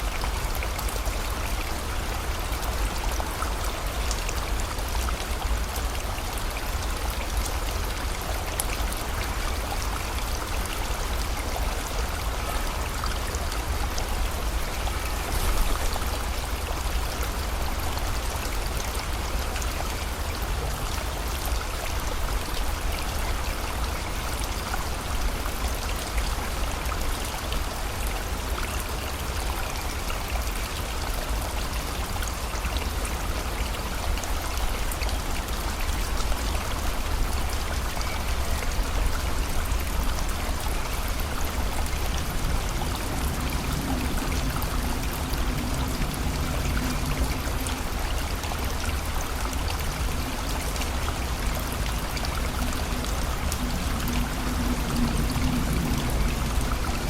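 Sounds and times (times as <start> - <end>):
rain drops ticking: 0.0 - 57.0
river water rushing: 0.0 - 57.0.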